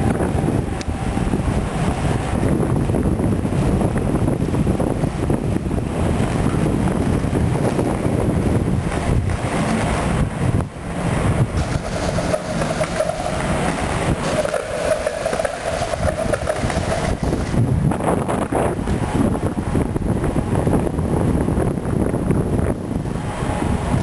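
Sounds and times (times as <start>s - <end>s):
skate wheels rolling on concrete: 0.0s - 24.0s
steady hum: 0.0s - 24.0s
wind buffeting microphone: 0.0s - 24.0s.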